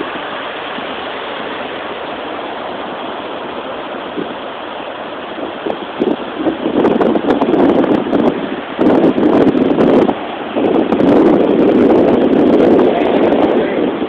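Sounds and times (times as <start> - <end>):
surf washing on beach: 0.0 - 14.0.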